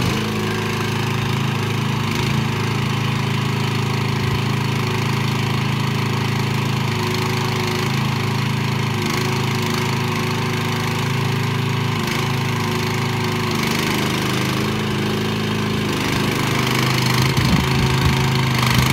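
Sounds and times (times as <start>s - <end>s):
small engine idling: 0.0s - 18.9s.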